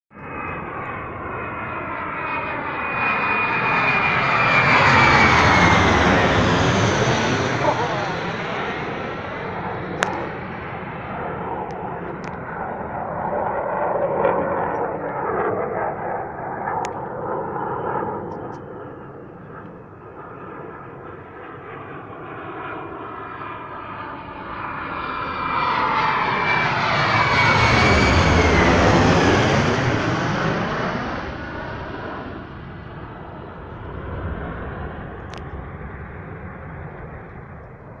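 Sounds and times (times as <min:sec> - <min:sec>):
fighter jet flying past: 0:00.1 - 0:38.0.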